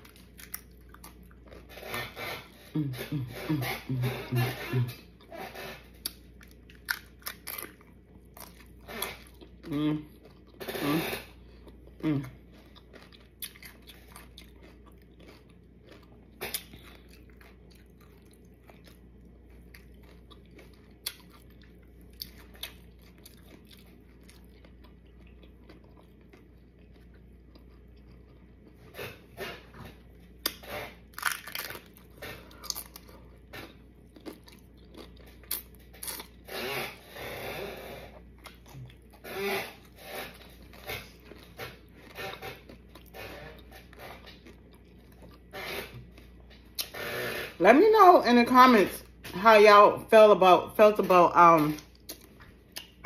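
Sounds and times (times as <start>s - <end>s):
crunching and chewing: 0.0s - 47.6s, 51.6s - 53.0s.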